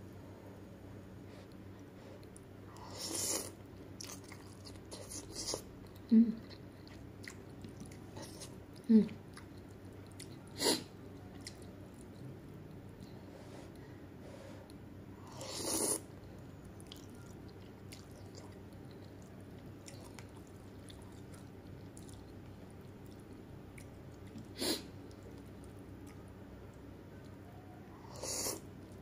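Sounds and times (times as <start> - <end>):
quiet chewing: 1.2 - 29.0.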